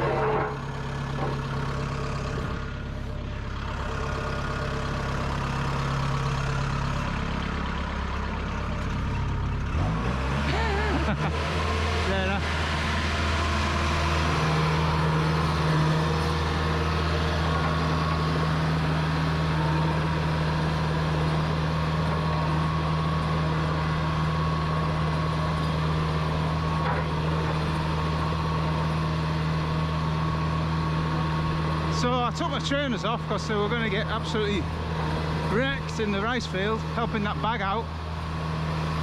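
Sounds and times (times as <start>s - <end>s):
engine humming steadily: 0.0s - 39.0s.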